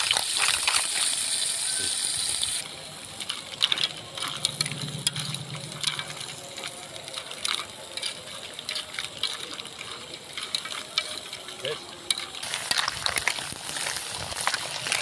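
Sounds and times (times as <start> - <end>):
mussel shells clinking in a pot: 0.0 - 15.0.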